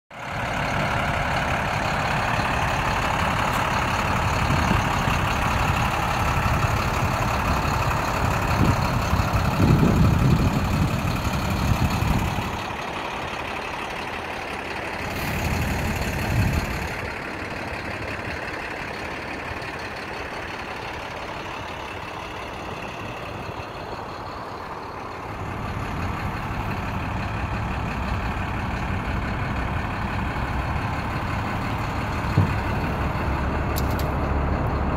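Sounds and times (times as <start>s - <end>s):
truck engine running: 0.1s - 34.9s
heavy low rumbles: 0.2s - 34.9s.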